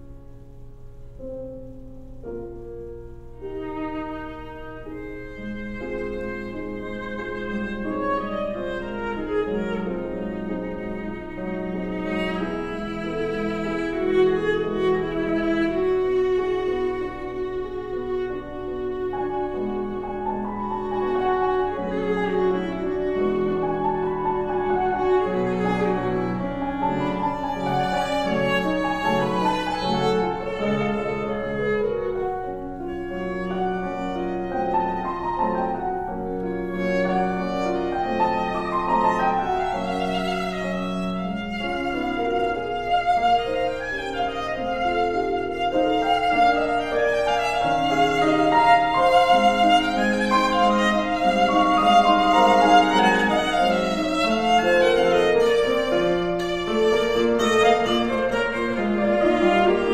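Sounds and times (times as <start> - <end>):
piano accompaniment: 0.0 - 59.9
bowed viola melody: 1.2 - 59.9.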